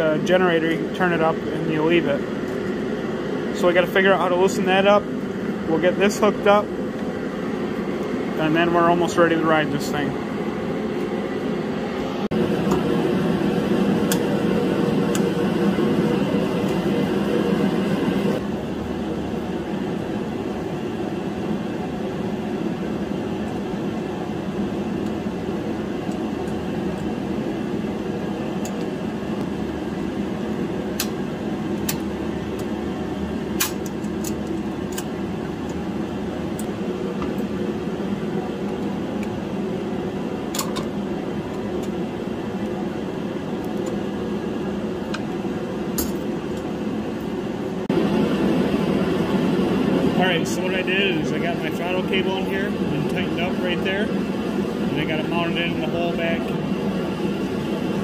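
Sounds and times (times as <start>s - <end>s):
steady mechanical hum: 0.0s - 58.0s.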